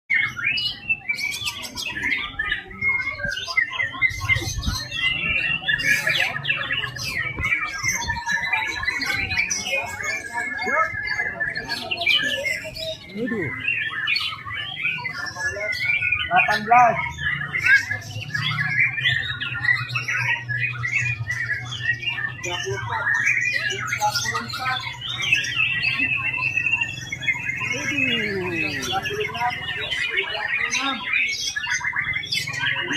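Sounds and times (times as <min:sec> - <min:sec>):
bird singing whistles and trills: 0:00.1 - 0:32.9.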